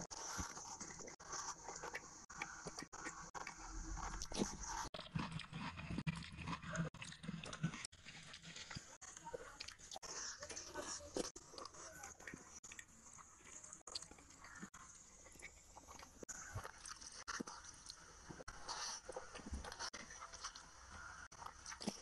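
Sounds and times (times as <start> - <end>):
chewing and wet mouth smacking: 0.3 - 22.0.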